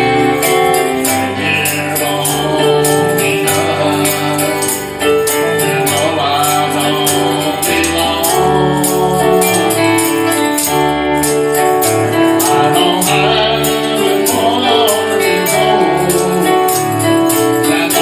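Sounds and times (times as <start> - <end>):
singing: 0.0 - 10.6, 12.4 - 18.0
bass line: 0.0 - 18.0
jingling percussion: 0.0 - 18.0
keyboard chords: 0.0 - 18.0.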